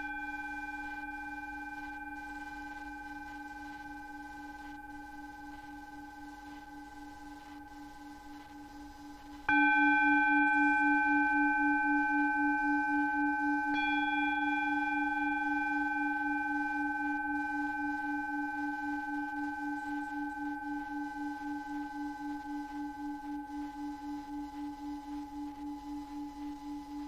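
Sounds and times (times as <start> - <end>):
singing bowl ringing: 0.0 - 27.0.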